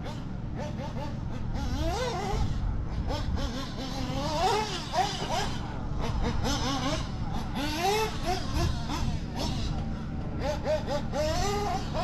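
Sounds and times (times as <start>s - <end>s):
rc car nitro engine revving: 0.0s - 12.0s.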